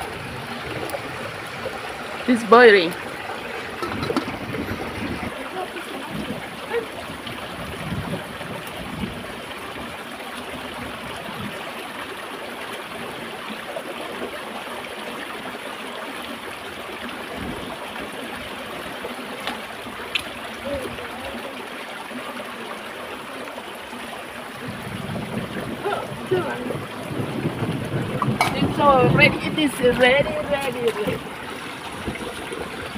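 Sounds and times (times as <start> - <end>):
stream running over rocks: 0.0 - 32.9.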